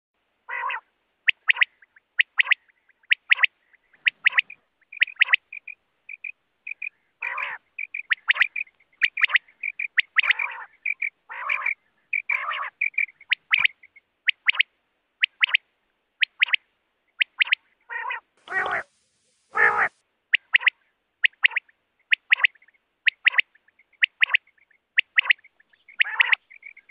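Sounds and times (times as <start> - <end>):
quail calling: 0.5 - 15.6, 16.2 - 26.9.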